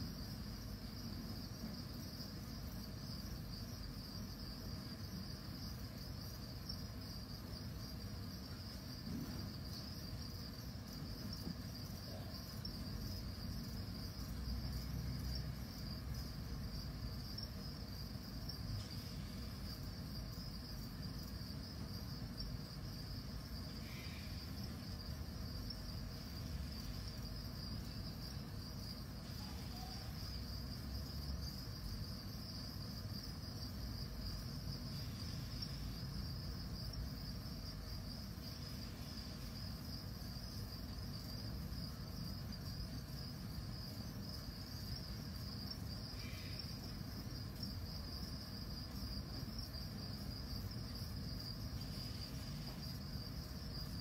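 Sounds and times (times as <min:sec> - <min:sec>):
high-pitched insect trill: 0:00.0 - 0:54.0.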